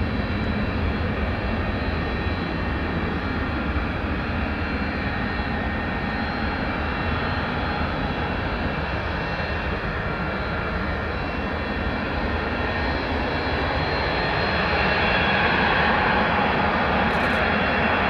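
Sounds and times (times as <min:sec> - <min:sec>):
jet engines rumbling with high whine: 0:00.0 - 0:18.0.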